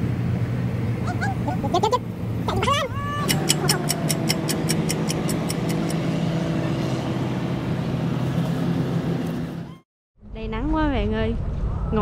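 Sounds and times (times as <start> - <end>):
engine running steadily: 0.0 - 9.8.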